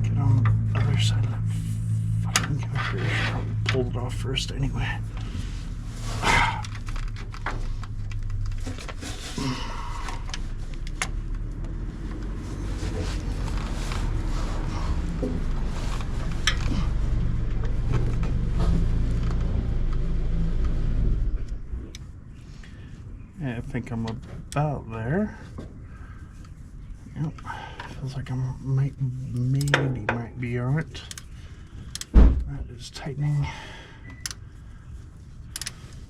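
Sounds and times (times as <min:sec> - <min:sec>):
low engine-like hum: 0:00.0 - 0:36.0.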